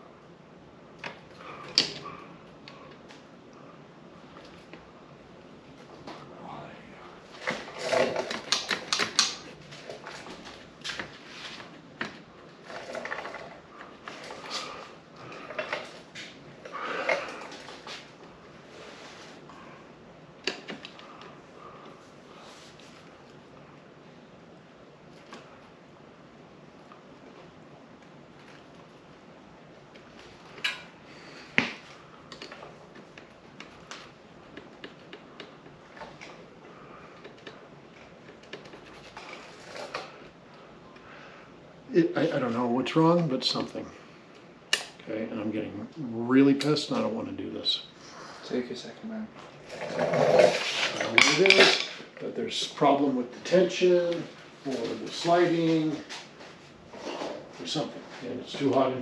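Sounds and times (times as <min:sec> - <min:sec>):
air-conditioner hum: 0:00.0 - 0:59.0.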